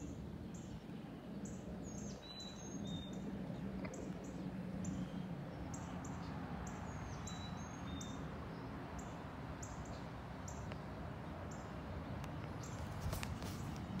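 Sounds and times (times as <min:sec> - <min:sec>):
distant jet rumble: 0:00.0 - 0:14.0.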